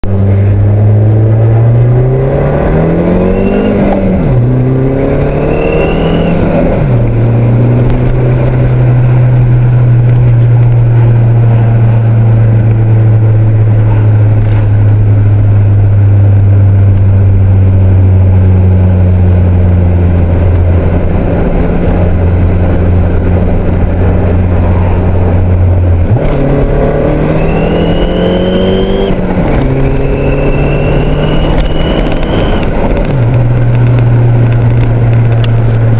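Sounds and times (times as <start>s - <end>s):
car engine revving: 0.0s - 35.9s
turbo whine: 0.0s - 35.9s.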